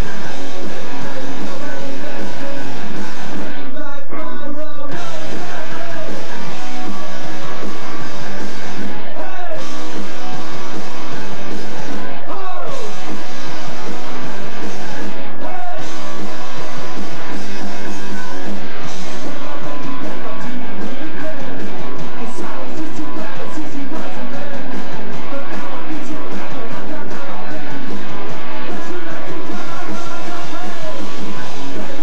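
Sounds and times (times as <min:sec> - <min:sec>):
punk rock band playing: 0:00.0 - 0:03.8, 0:04.9 - 0:32.0.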